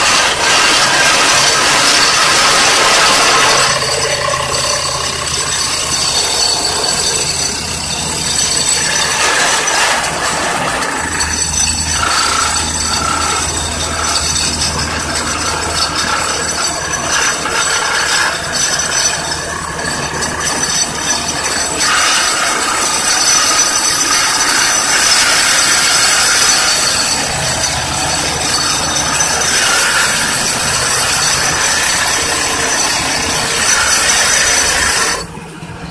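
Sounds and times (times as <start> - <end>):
high metallic whine: 0.0 - 35.9
pile driver grinding rattle: 0.0 - 35.9.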